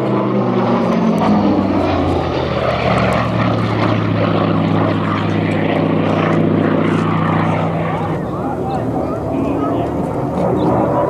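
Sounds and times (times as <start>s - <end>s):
radial aircraft engine and propeller: 0.0s - 11.0s.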